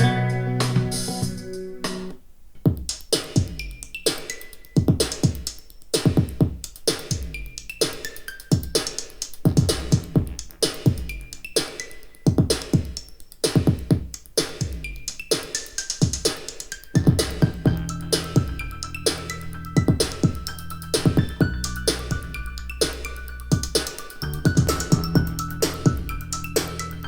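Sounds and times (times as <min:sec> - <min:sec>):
electronic music through speakers: 0:00.0 - 0:02.2, 0:02.9 - 0:27.0.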